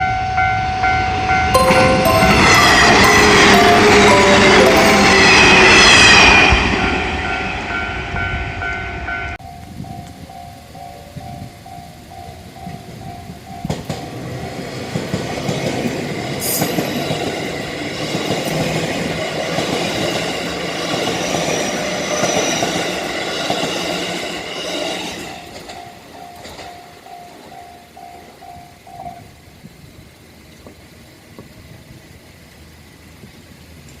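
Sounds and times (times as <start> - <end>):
railroad crossing bell dinging: 0.0 - 29.4
electric train passing: 0.0 - 33.8.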